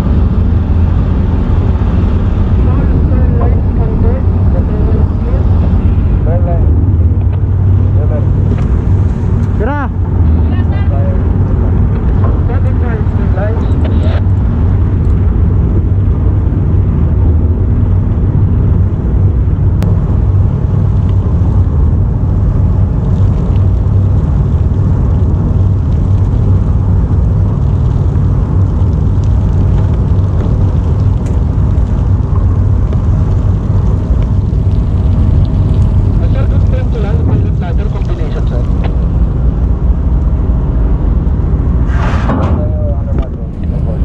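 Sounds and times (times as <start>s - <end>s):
low engine rumble: 0.0s - 44.0s.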